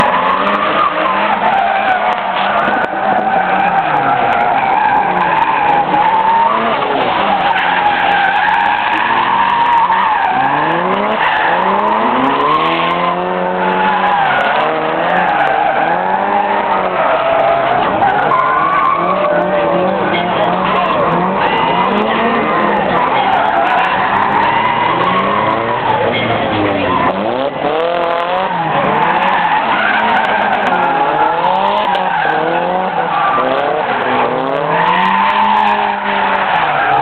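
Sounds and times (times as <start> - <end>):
car engines revving: 0.0 - 37.0
tyres squealing: 0.0 - 37.0.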